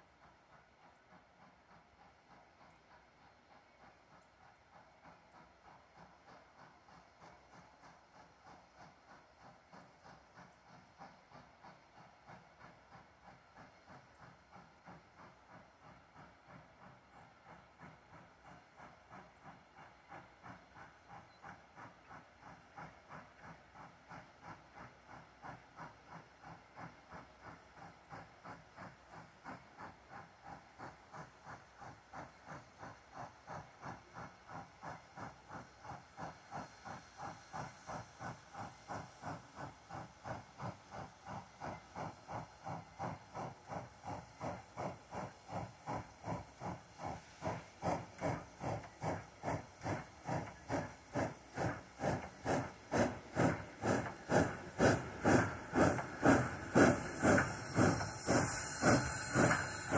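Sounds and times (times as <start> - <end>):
steam locomotive chuffing: 0.0 - 59.9.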